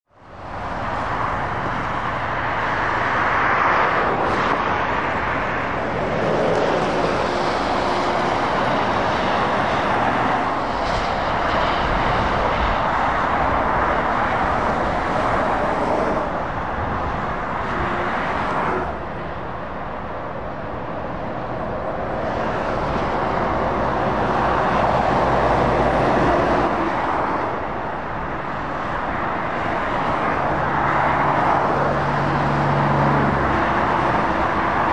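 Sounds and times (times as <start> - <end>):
traffic passing: 0.1 - 34.9.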